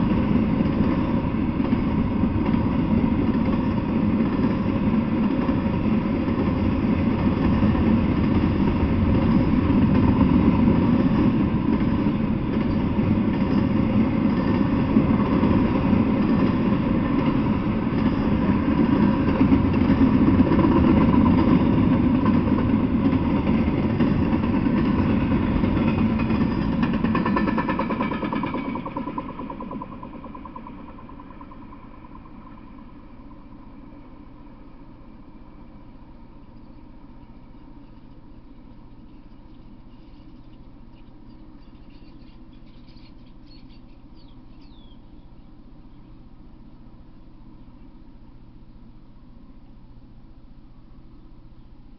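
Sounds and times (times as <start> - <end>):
steel wheels rumbling on rails: 0.0 - 47.6.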